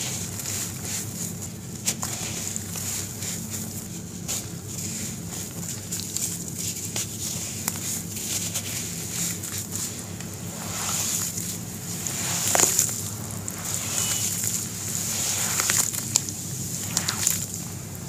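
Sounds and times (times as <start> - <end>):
cement lumps crunching: 0.0 - 18.0
fine steady hiss: 0.0 - 18.0
hands squishing wet cement: 0.0 - 18.0.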